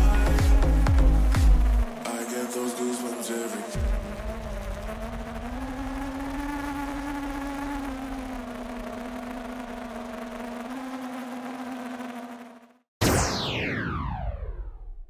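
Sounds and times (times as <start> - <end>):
drone motors buzzing: 0.0 - 12.9.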